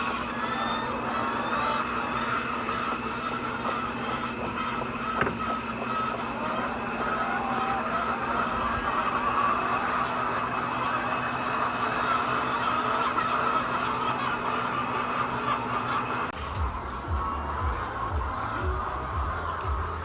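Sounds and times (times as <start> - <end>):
mechanical hum with whine: 0.0 - 20.0.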